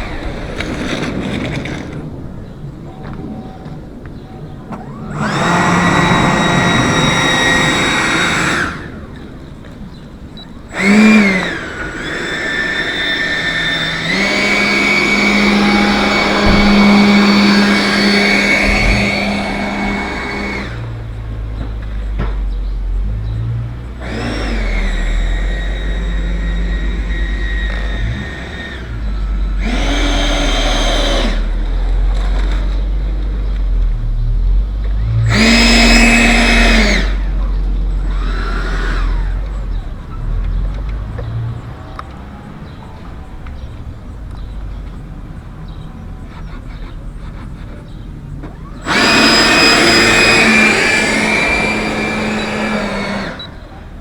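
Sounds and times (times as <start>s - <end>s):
model jet motor whining: 0.0s - 2.6s, 4.7s - 45.1s, 45.7s - 54.0s.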